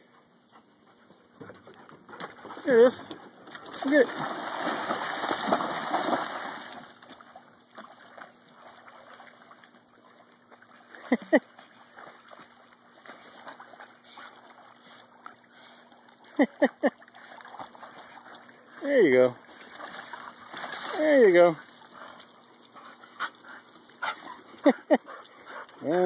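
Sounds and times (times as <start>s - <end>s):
dog swimming in water: 0.2s - 26.0s
dogs splashing into pool: 2.1s - 26.0s.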